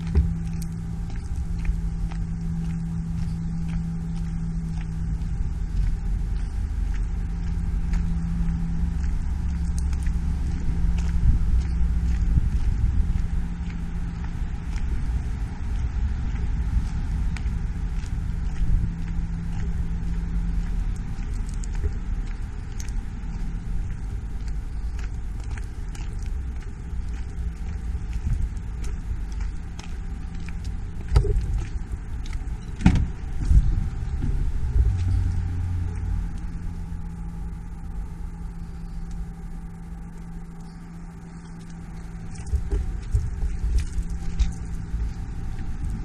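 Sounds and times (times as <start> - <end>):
diesel engine idling: 0.0 - 46.0
footsteps on gravel: 0.0 - 46.0
steady low rumble: 0.0 - 46.0.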